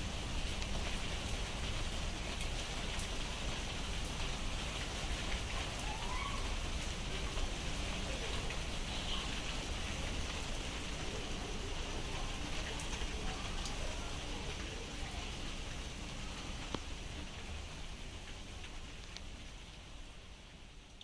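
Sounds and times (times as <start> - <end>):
distinct raindrops: 0.0 - 21.0
steady rain falling: 0.0 - 21.0.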